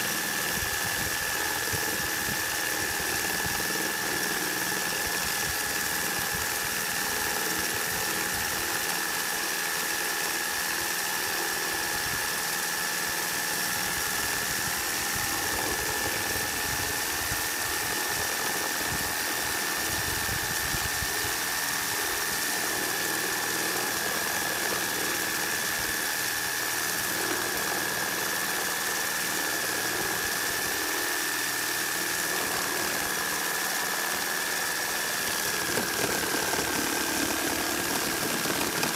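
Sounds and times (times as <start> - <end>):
high motor whine: 0.0 - 38.9
reciprocating saw cutting wood: 0.0 - 38.9.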